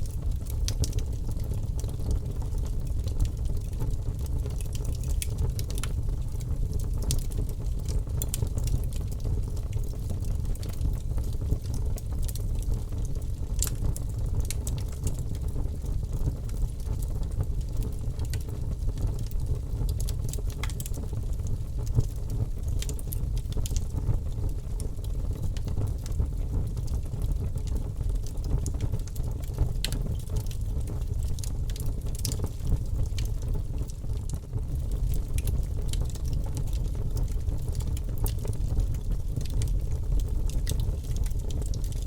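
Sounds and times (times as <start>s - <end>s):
bonfire low rumble: 0.0s - 42.0s
burning wood crackling and popping: 0.0s - 42.0s.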